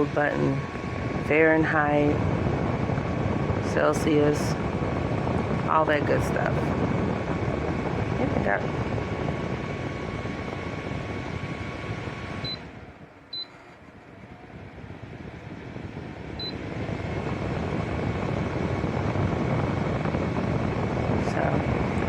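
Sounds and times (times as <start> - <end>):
faint fan motor whine: 0.0 - 22.0
fan blowing with whoosh: 0.0 - 22.0.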